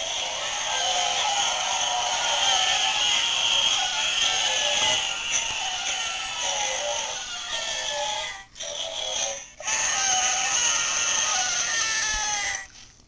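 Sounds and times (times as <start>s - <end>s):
tinny song from small speaker: 0.0s - 12.8s.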